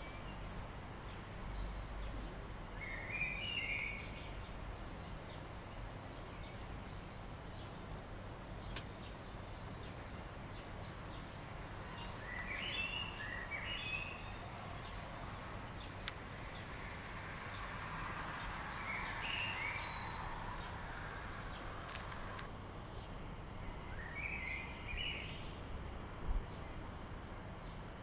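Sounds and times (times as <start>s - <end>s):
songbird singing: 0.0s - 7.9s, 8.5s - 23.2s, 23.9s - 25.7s.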